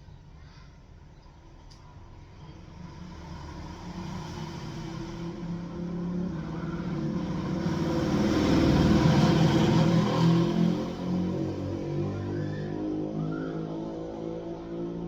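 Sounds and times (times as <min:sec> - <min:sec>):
vehicle engine approaching: 0:02.2 - 0:15.0.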